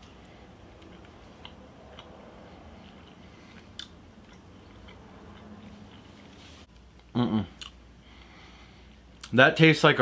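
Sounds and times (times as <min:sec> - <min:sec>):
man chewing wet food: 0:00.0 - 0:09.3.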